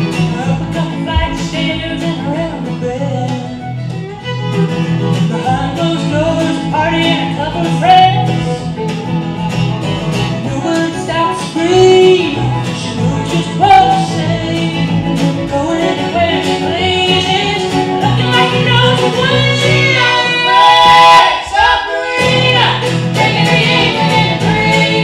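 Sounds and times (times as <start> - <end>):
woman singing lead: 0.0 - 4.0, 5.2 - 8.7, 10.3 - 25.0
bowed fiddle: 0.0 - 25.0
plucked upright bass: 0.0 - 25.0
strummed acoustic guitar: 0.0 - 25.0.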